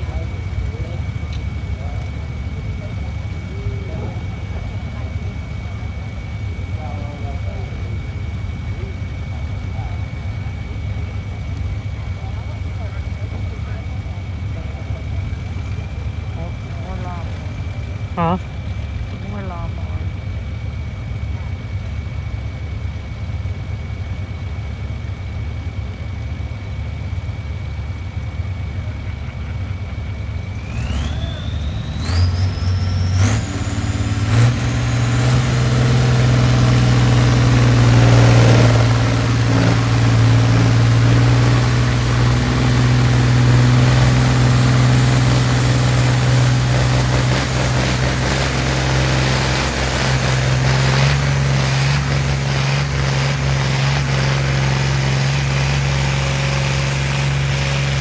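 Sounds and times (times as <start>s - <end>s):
tractor engine revving: 0.0s - 13.8s, 14.4s - 21.7s, 27.6s - 58.0s
high whine: 0.0s - 58.0s.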